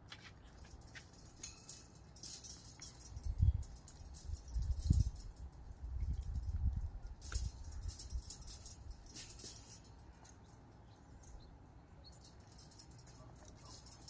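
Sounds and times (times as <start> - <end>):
wire panels rattling: 0.0 - 11.4, 12.1 - 14.0.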